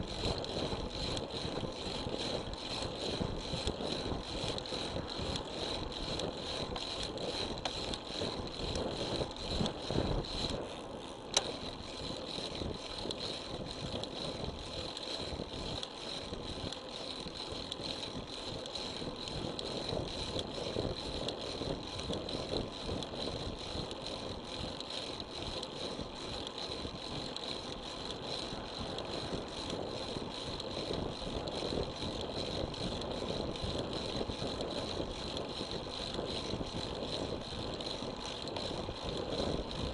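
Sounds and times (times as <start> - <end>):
fine rattling from road vibration: 0.0 - 39.9
wind rush and tyre noise: 0.0 - 39.9.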